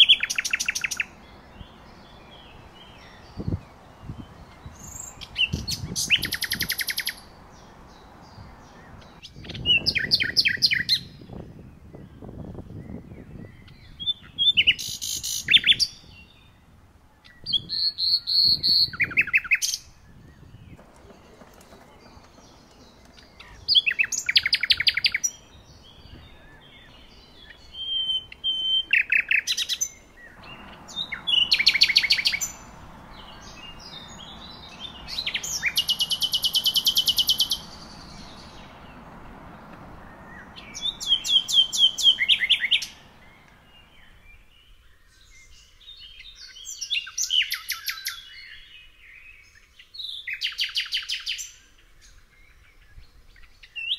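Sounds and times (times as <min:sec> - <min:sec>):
songbirds trilling: 0:00.0 - 0:53.9.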